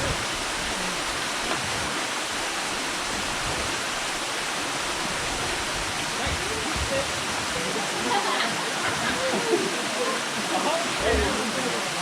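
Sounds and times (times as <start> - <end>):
waterfall pouring onto rocks: 0.0 - 12.0.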